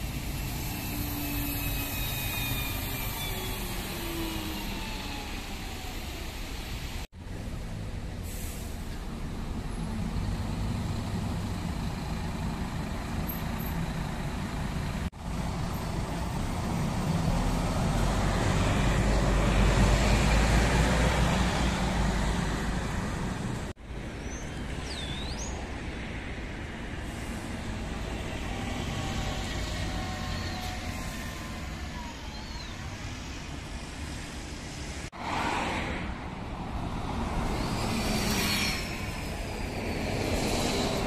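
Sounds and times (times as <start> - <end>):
bus engine rumble: 0.0 - 41.0
street traffic: 0.0 - 41.0.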